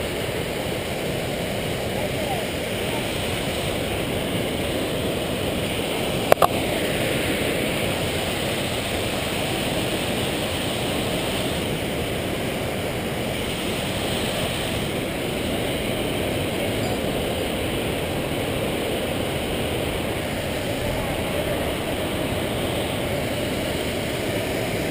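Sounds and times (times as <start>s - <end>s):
creek flowing: 0.0s - 24.9s.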